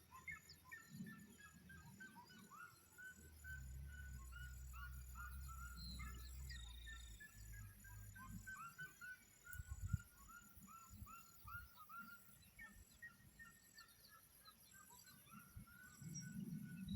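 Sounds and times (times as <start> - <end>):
faint birds chirping: 0.0 - 16.9.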